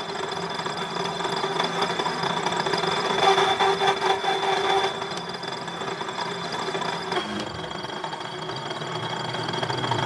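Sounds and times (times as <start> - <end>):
metal lathe humming and whining: 0.0 - 10.0.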